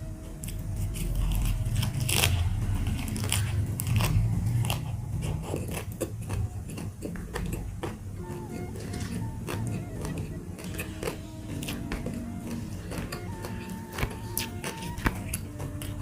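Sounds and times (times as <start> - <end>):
crunching and chewing crisp food: 0.0 - 16.0.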